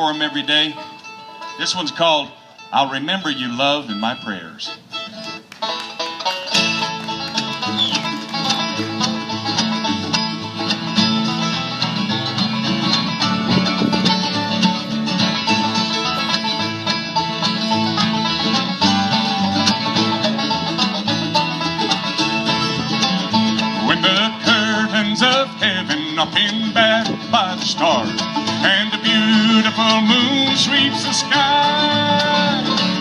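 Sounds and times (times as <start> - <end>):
bluegrass band playing: 0.0 - 33.0.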